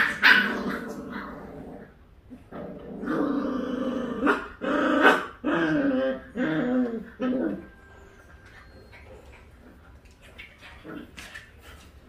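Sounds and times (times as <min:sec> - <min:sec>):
dogs growling: 0:00.0 - 0:07.8, 0:08.9 - 0:11.8.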